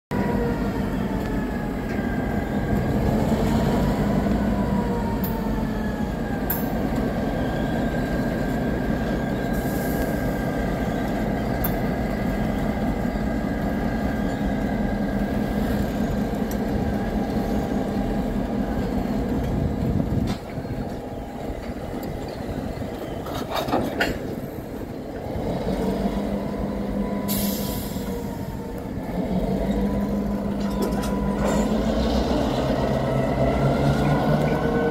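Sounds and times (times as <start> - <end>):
diesel locomotives humming: 0.1 - 34.9
rail cars rolling: 0.2 - 34.9.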